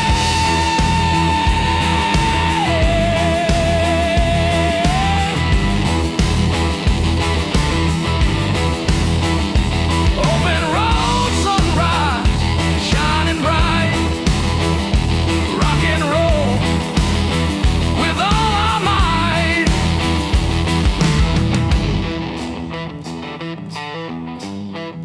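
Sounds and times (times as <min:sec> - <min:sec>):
drum beat: 0:00.0 - 0:22.6
bass: 0:00.0 - 0:25.0
electric lead guitar melody: 0:00.0 - 0:25.0.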